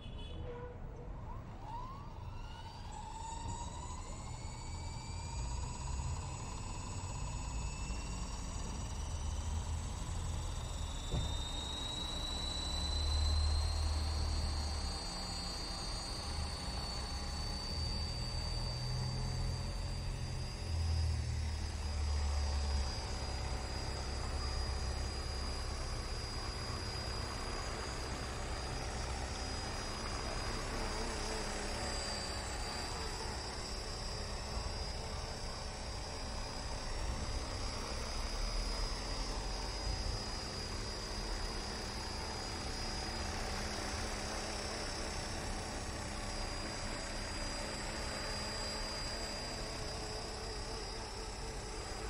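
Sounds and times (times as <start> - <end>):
rc helicopter rotor whine: 0.0 - 52.0.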